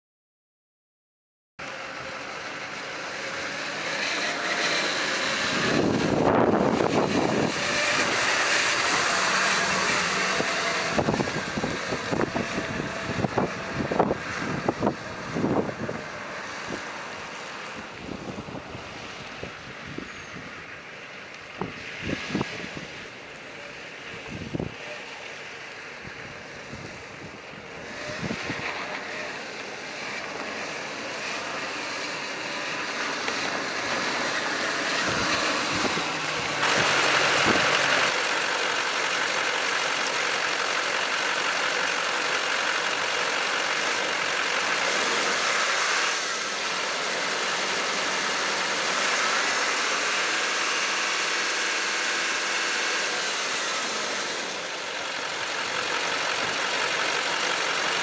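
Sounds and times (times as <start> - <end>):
diesel engine idling: 1.6 - 19.0, 22.7 - 58.0.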